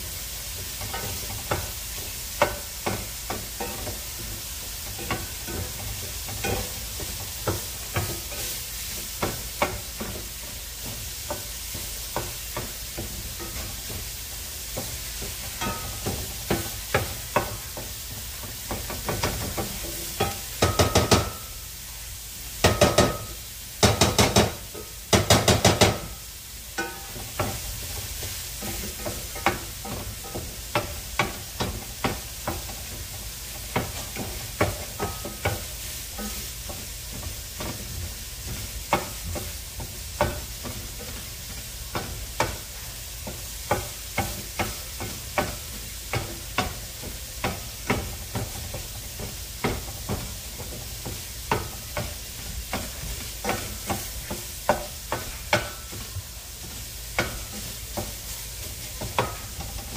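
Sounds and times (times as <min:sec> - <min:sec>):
meat sizzling in a skillet: 0:00.0 - 0:59.9
utensil scraping and tapping pan: 0:00.6 - 0:21.5, 0:22.6 - 0:26.2, 0:26.8 - 0:59.9.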